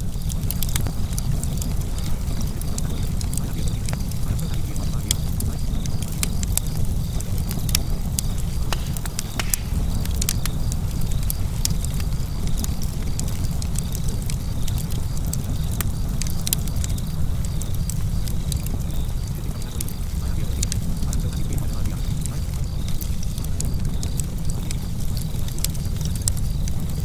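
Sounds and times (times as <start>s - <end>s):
fire crackling: 0.0s - 27.0s
low rumble of burning: 0.0s - 27.0s.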